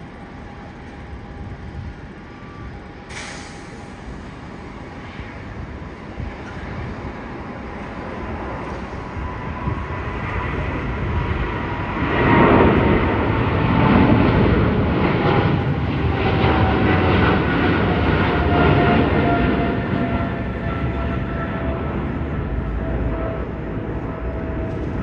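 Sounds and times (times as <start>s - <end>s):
jet engines roaring and whining: 0.0s - 25.0s.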